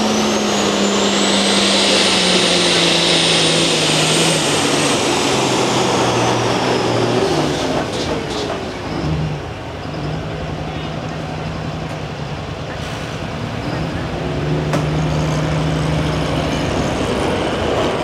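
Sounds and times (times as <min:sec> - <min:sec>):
high turbo whine: 0:00.0 - 0:18.0
tractor engine under full power: 0:00.0 - 0:18.0.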